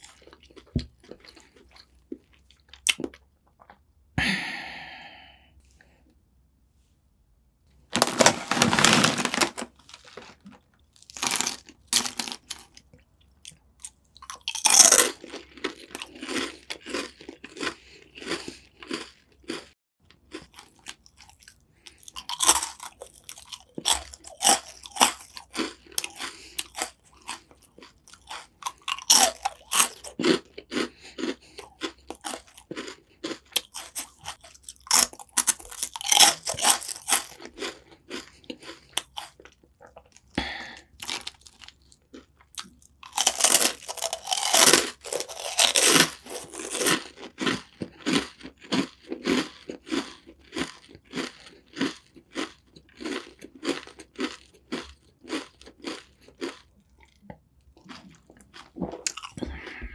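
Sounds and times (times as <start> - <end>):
crunching and chewing snack sticks: 0.0 - 3.9, 7.9 - 59.9.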